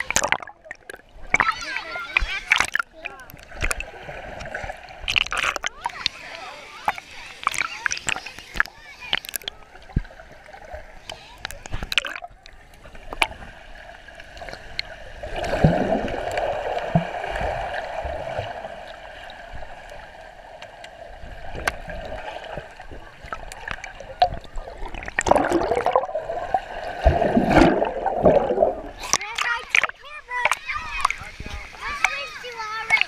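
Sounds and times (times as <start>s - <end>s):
bubbles streaming: 0.0s - 32.2s
underwater water gurgling: 0.0s - 33.0s.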